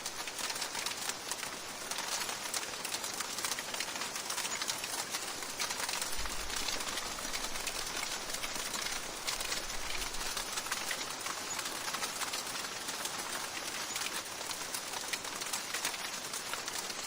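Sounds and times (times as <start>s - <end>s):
hailstones striking hard surface: 0.0s - 17.0s.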